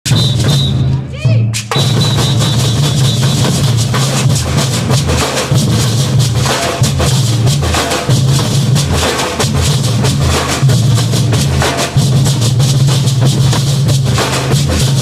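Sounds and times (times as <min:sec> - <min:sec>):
bass drums pounding: 0:00.0 - 0:15.0
snare drums rattling: 0:00.0 - 0:15.0.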